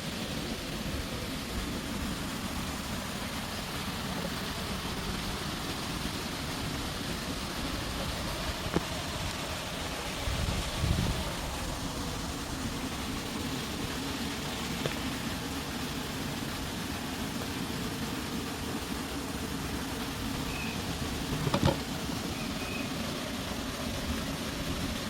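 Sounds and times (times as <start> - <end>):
rain hiss: 0.0 - 25.0.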